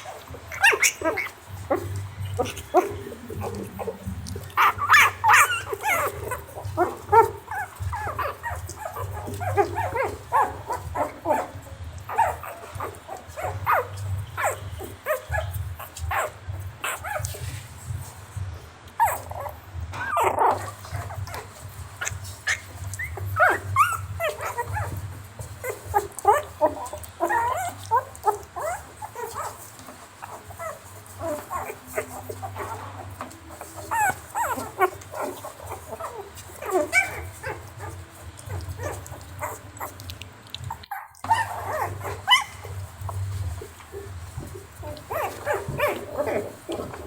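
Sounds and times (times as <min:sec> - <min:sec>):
puppies yipping and whimpering: 0:00.0 - 0:18.1, 0:19.0 - 0:47.0
low steady hum: 0:00.0 - 0:47.0.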